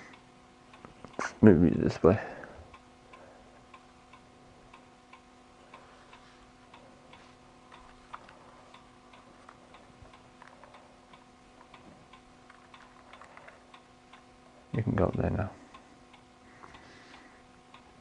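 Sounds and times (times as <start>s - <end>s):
faint regular ticking: 0.0s - 18.0s
low steady hum: 0.0s - 18.0s.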